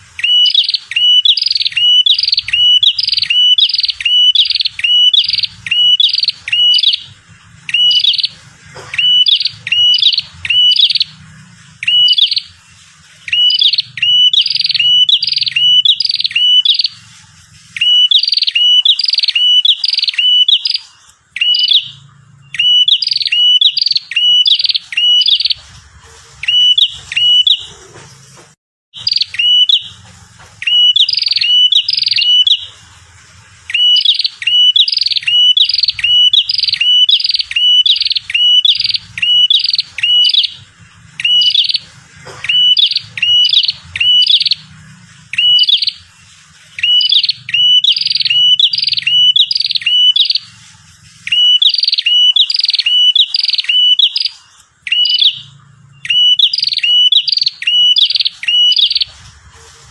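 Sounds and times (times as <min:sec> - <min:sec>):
bird chirping song: 0:00.0 - 0:28.2, 0:29.0 - 0:59.9.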